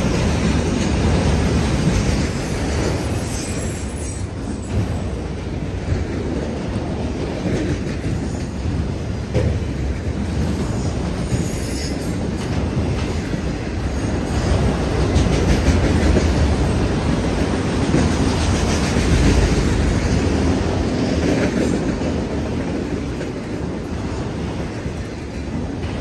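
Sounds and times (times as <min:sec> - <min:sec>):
freight cars rumbling on rail: 0:00.0 - 0:26.0.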